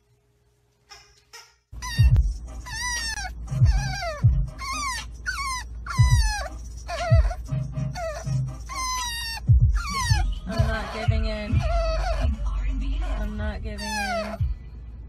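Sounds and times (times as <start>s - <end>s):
puppy whining: 1.8s - 14.6s
low steady rumble: 1.8s - 15.0s.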